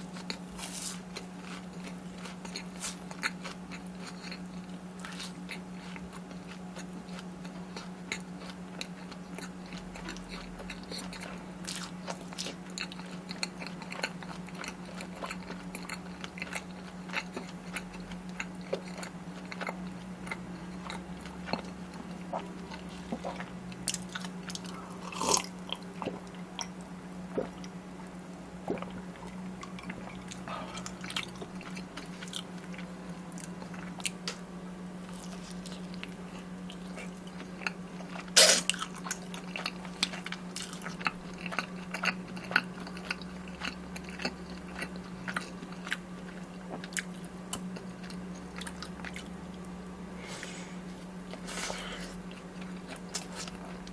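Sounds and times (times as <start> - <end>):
crunchy chewing: 0.0 - 34.4, 35.0 - 53.9
steady low hum: 0.0 - 53.9.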